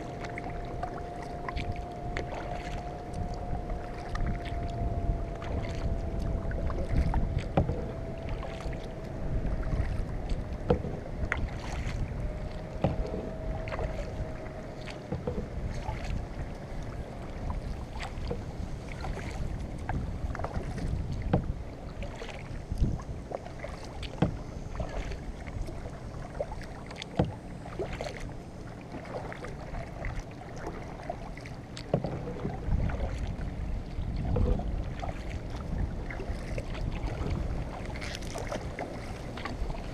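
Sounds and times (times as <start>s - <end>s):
paddle and hull knocking: 0.0s - 39.9s
paddle splashing in water: 0.0s - 39.9s
wind rumble on microphone: 0.0s - 39.9s.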